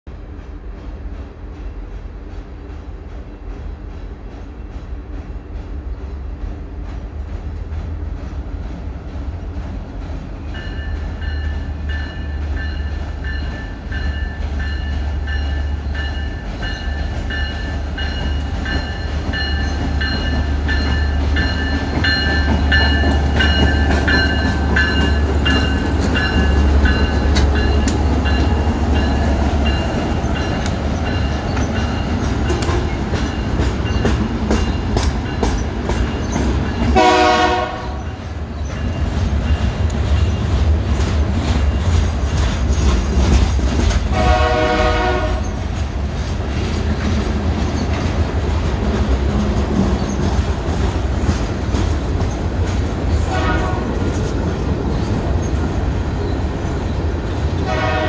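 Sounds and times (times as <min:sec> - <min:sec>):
locomotive engine rumble: 0:07.9 - 0:58.0.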